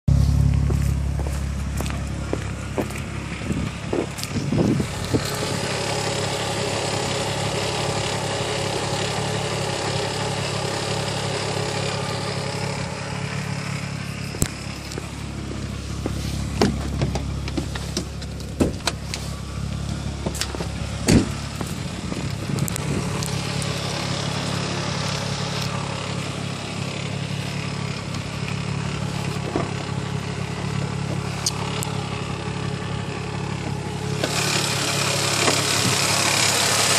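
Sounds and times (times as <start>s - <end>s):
car engine idling with whine: 0.0s - 36.9s
engine ticking and tapping: 0.1s - 36.9s.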